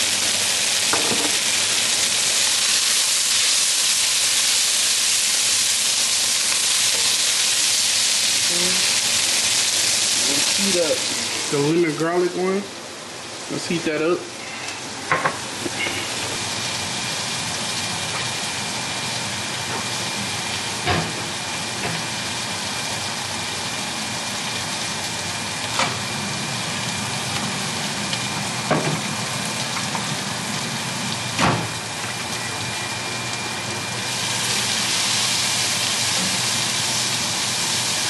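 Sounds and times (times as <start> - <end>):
food sizzling in a pan: 0.0 - 12.3, 14.4 - 38.0.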